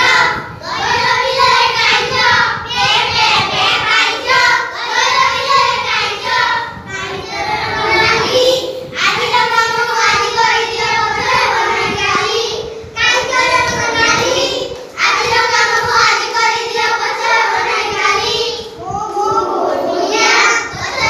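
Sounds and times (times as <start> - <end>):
children singing: 0.0 - 21.0.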